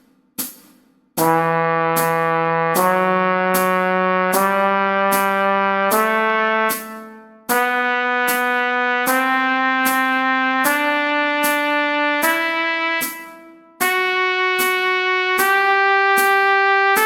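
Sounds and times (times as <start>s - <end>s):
metronome clicking: 1.2s - 17.0s
trumpet playing long notes: 1.2s - 17.0s.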